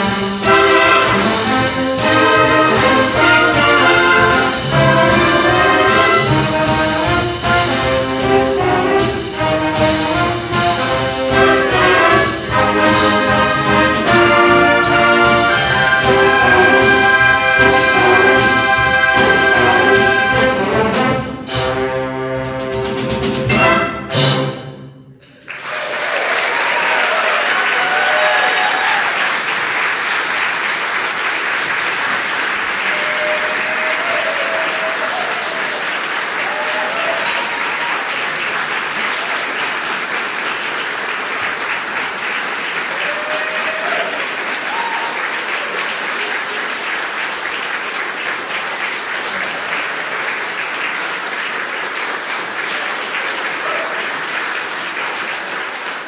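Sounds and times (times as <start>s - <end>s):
audience applauding: 0.0s - 20.9s, 25.2s - 56.0s.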